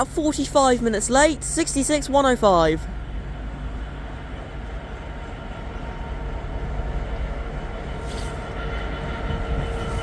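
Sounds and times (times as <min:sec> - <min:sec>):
train rail rumble: 0:00.0 - 0:10.0.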